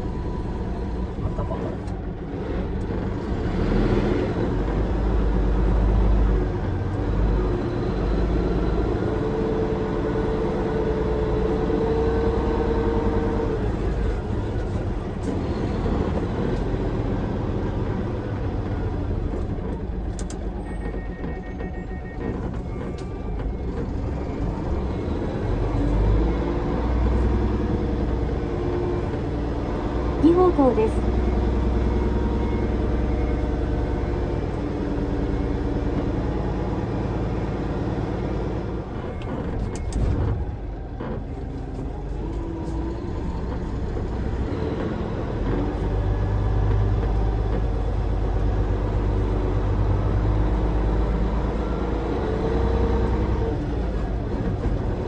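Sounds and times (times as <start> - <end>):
road noise: 0.0 - 55.0
truck diesel engine in cab: 0.0 - 55.0.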